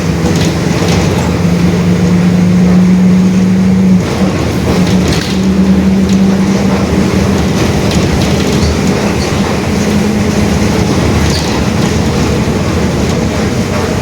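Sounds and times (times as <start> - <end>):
bus rumble and rattle: 0.0 - 14.0
differential drone: 0.0 - 14.0.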